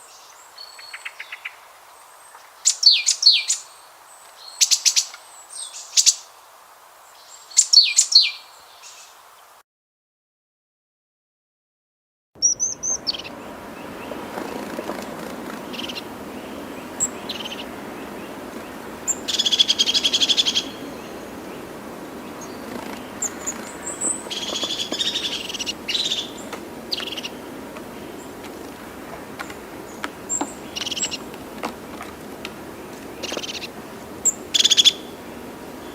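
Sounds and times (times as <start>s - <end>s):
birds chirping and trilling: 0.0s - 6.3s, 7.1s - 9.2s, 12.4s - 35.9s
steady background hiss: 0.0s - 9.6s, 12.4s - 35.9s.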